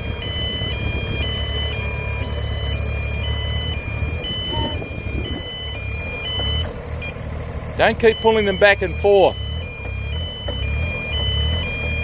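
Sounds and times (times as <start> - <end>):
engine rumbling: 0.0 - 12.0
two-tone travel alarm: 0.0 - 12.0.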